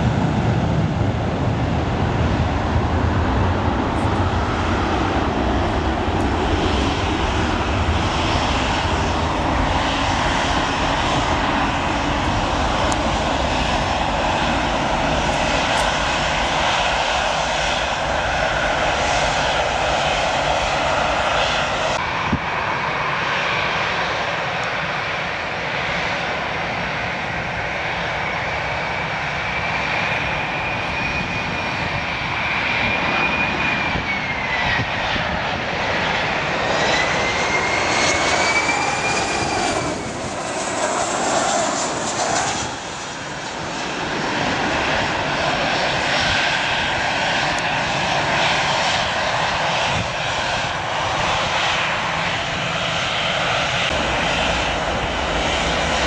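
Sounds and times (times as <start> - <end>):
jet engine roar with fan whine: 0.0 - 56.0.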